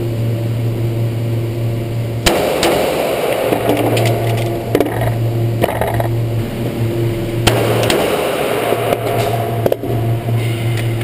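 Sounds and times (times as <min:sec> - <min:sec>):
ventilation drone: 0:00.0 - 0:11.0.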